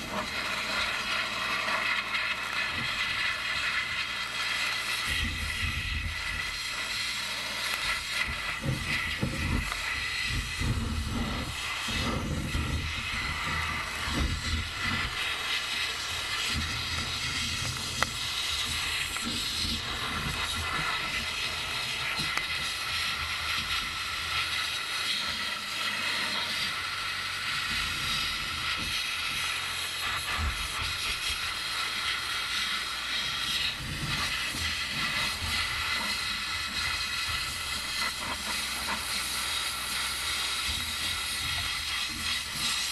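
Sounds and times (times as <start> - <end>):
blaster nozzle hissing: 0.0 - 42.9.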